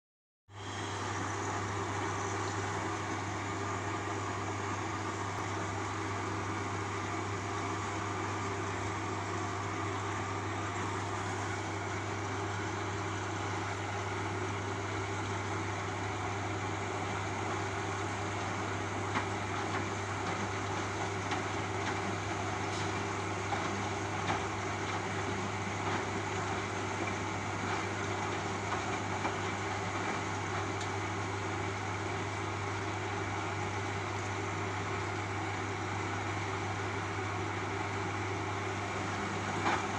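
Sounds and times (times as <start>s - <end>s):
washing machine motor hum: 0.5s - 39.9s
drum turning with water: 0.6s - 39.9s.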